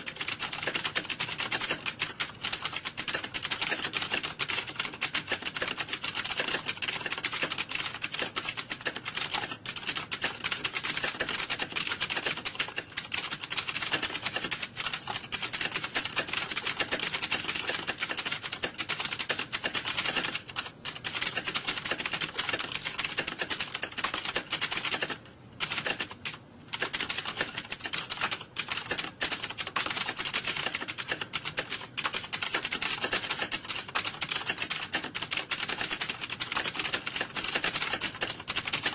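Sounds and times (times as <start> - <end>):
fast typing on keyboards: 0.0 - 38.9.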